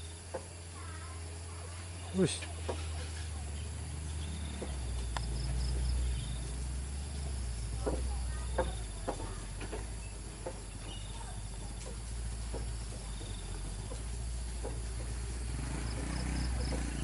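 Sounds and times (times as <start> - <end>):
diesel truck engine rumble: 0.0 - 17.0
faint insect chirps: 0.0 - 17.0.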